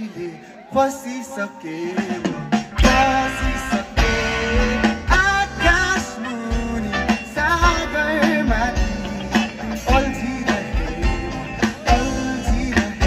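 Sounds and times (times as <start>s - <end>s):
person singing lead: 0.0s - 13.0s
electric guitars: 1.5s - 13.0s
bass and drums: 1.9s - 13.0s.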